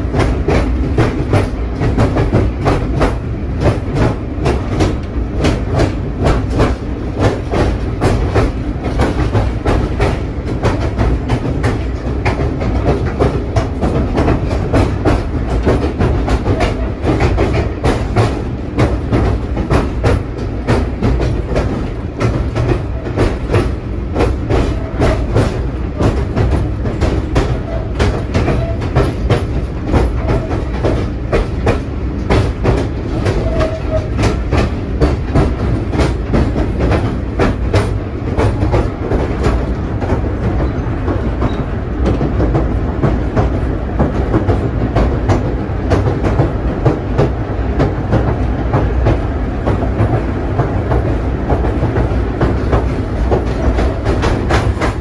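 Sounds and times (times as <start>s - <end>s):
train carriage rumbling: 0.0s - 55.0s
wheels clicking over rail joints: 0.0s - 55.0s.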